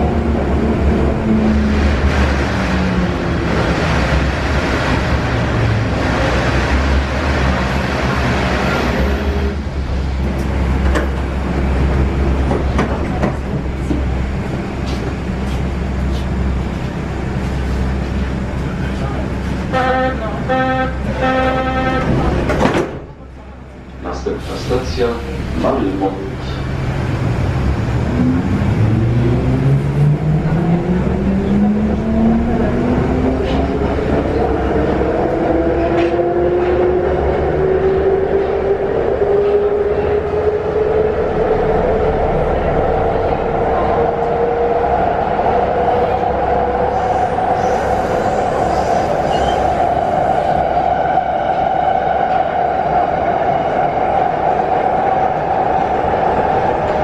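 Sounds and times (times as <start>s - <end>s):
wheels rumbling on rails: 0.0s - 57.0s.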